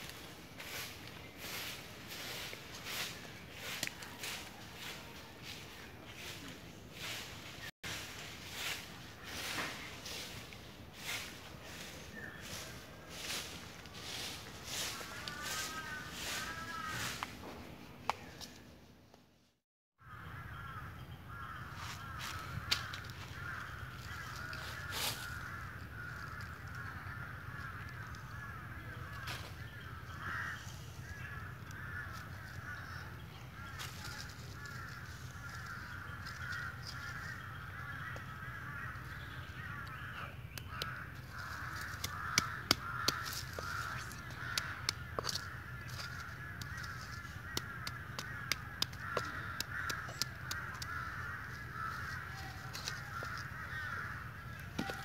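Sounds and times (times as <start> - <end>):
birds chattering and cawing: 0.0 - 18.8, 20.0 - 55.0.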